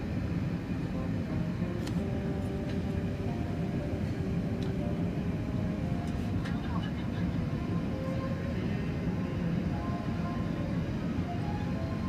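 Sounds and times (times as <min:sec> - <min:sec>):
aircraft cabin rumble: 0:00.0 - 0:12.0
faint steady tones: 0:00.0 - 0:12.0.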